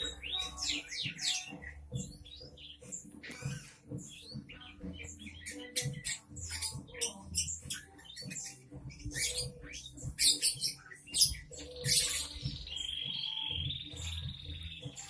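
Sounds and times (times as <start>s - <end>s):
songbird chirps: 0.0s - 15.0s
songbird trill: 0.0s - 15.0s.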